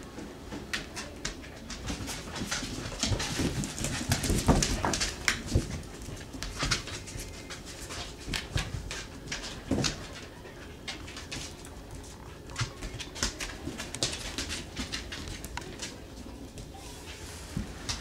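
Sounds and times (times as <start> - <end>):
puppy claws on tile floor: 0.1 - 18.0.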